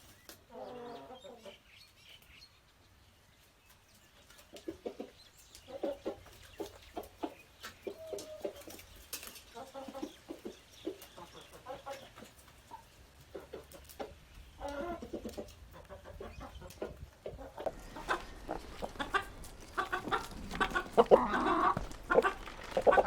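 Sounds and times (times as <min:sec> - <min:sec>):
chickens clucking: 0:00.0 - 0:02.3, 0:03.3 - 0:23.0.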